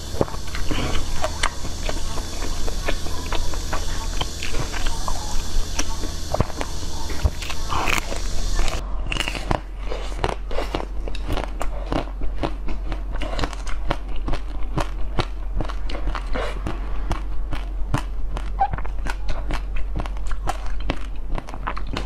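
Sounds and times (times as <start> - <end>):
ice cream shell crunching: 0.0 - 22.0.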